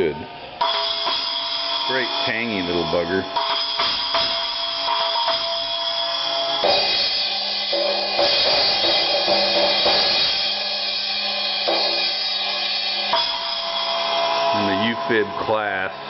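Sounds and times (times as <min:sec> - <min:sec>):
cymbals struck and ringing: 0:00.6 - 0:16.0.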